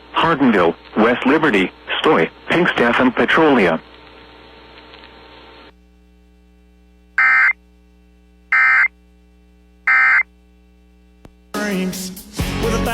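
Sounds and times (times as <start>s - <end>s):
low mains hum: 0.0s - 12.9s.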